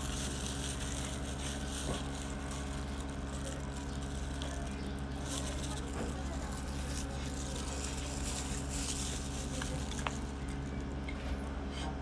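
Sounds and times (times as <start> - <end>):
motor humming: 0.0 - 11.7.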